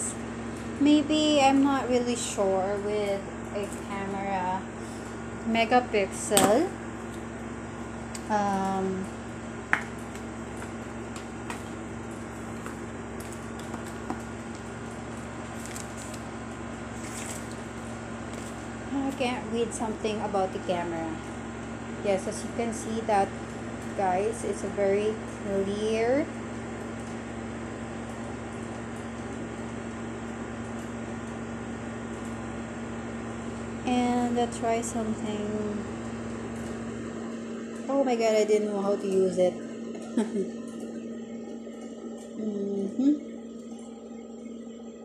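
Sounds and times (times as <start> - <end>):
background hum: 0.0 - 45.0.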